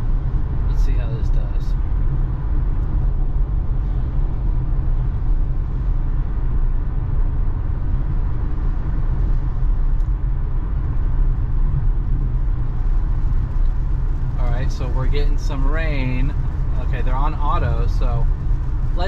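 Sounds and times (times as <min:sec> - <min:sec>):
road and tyre rumble in car: 0:00.0 - 0:19.0.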